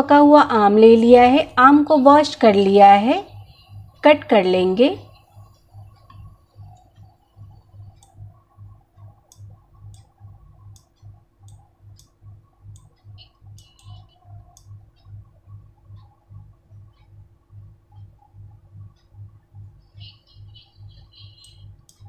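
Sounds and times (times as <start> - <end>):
faint low throb: 0.6 - 22.0.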